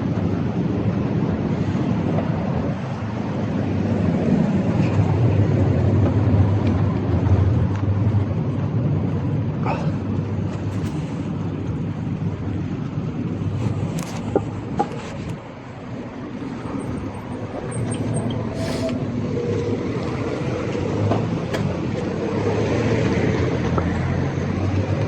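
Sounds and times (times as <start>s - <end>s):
bike tyres rumbling on street: 0.0s - 25.0s.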